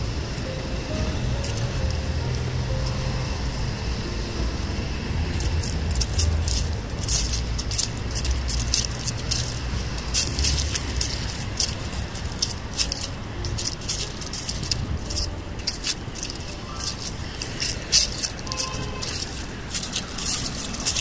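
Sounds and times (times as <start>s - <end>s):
low rumble: 0.0s - 17.9s
crisp rustling and crackling: 0.8s - 3.6s, 5.1s - 21.0s.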